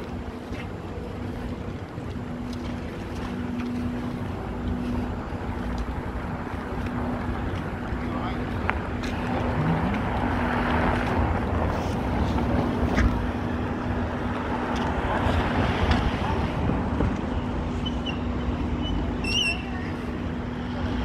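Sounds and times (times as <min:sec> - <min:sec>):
wind buffeting microphone: 0:00.0 - 0:19.2
low hum: 0:00.0 - 0:21.0
traffic rushing: 0:00.0 - 0:21.0.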